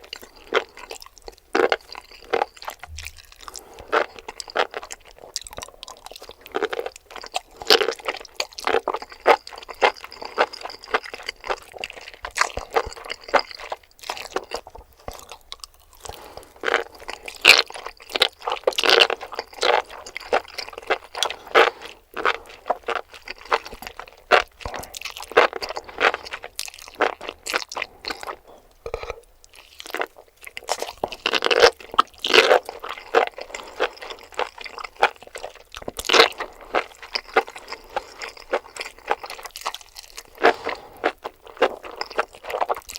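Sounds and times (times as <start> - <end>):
crunchy mushroom chewing: 0.0 - 42.9.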